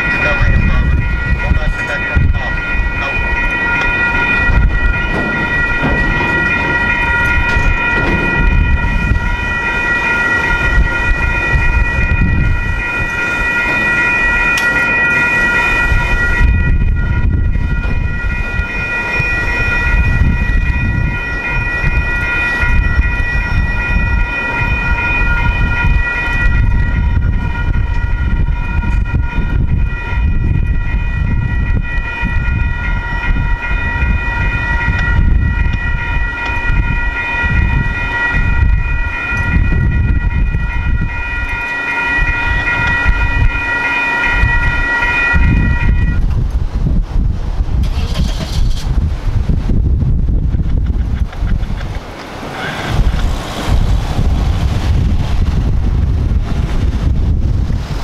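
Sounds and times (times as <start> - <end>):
railroad crossing bell ringing: 0.0 - 47.1, 50.0 - 58.0
freight cars rumbling and rattling: 0.0 - 58.0.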